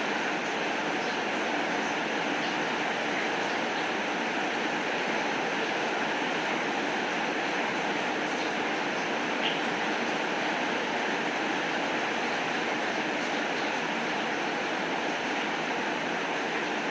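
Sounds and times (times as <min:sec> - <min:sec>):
steady rainfall: 0:00.0 - 0:16.9.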